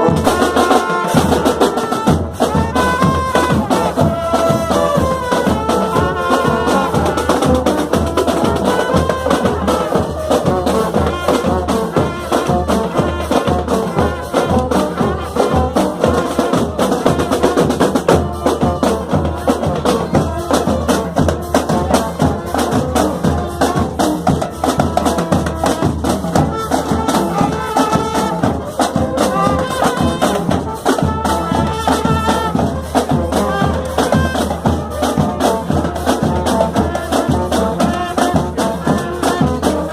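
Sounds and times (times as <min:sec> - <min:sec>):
fast drumming: 0:00.0 - 0:39.9
marching band playing: 0:00.0 - 0:39.9.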